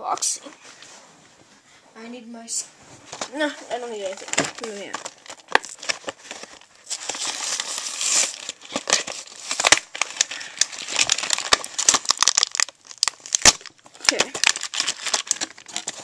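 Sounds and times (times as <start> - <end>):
packaging crinkling and tearing: 3.2 - 16.0.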